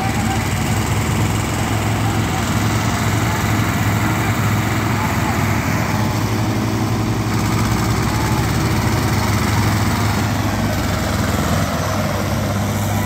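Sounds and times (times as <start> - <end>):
diesel tractor engines droning: 0.0 - 13.0.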